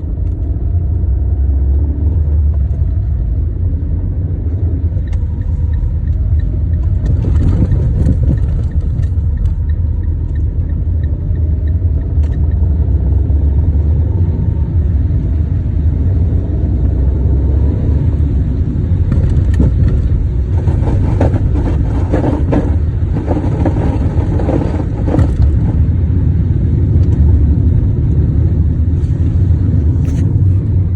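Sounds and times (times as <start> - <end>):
car engine rumbling: 0.0 - 30.9.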